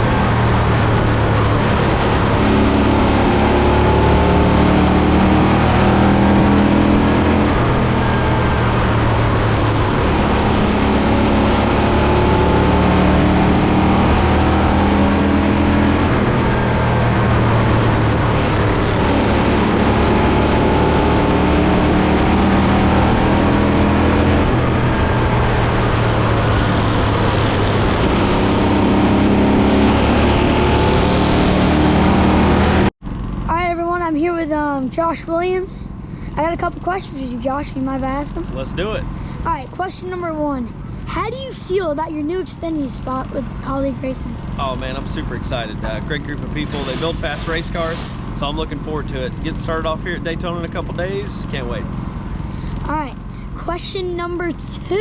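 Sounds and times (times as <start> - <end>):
race car engine revving: 0.0 - 33.5, 35.0 - 55.0.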